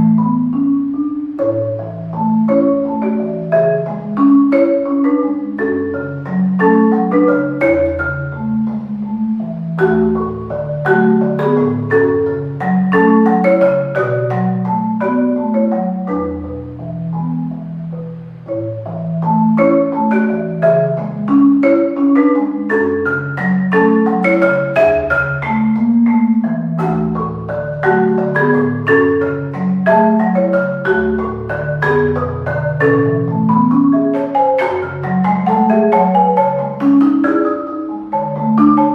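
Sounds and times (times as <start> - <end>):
solo marimba: 0.0 - 38.9.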